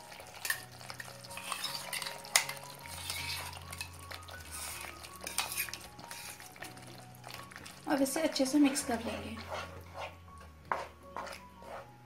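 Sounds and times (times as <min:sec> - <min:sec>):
light sizzle: 0:00.0 - 0:10.4
spatula scraping and tapping pan: 0:00.2 - 0:06.8, 0:08.7 - 0:12.0.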